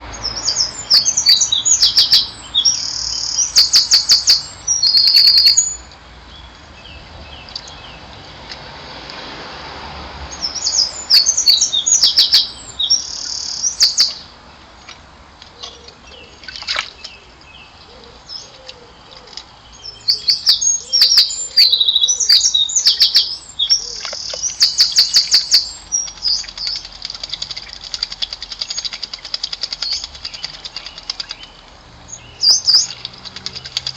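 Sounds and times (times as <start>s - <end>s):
songbird chirps and trills: 0.0s - 8.6s, 10.3s - 33.9s.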